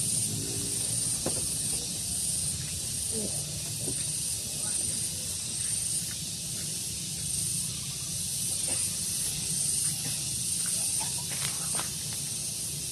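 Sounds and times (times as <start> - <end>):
low rumble of breeze: 0.0 - 10.6
steady high hiss: 0.0 - 12.9.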